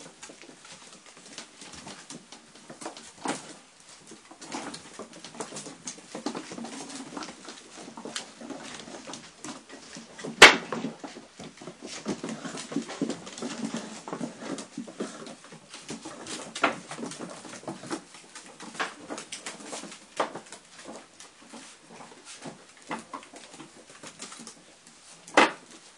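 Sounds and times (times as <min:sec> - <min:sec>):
paws tapping on wooden floor: 0:00.0 - 0:25.9.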